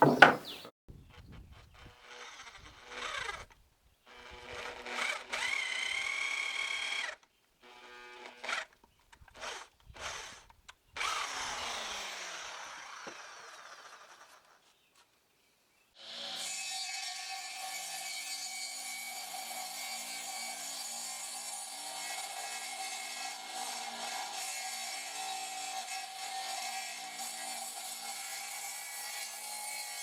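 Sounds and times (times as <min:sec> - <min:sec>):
circular saw cutting wood: 0:01.6 - 0:14.6, 0:16.0 - 0:30.0.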